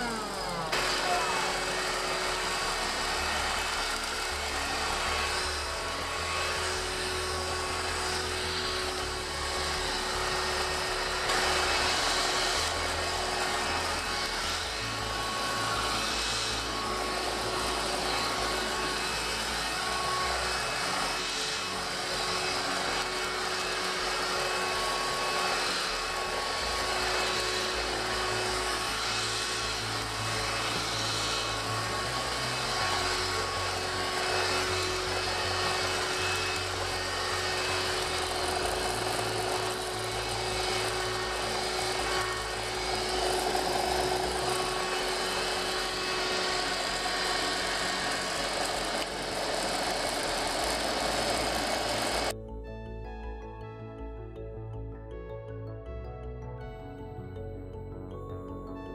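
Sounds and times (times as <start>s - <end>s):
stick vacuum running on carpet: 0.0s - 52.4s.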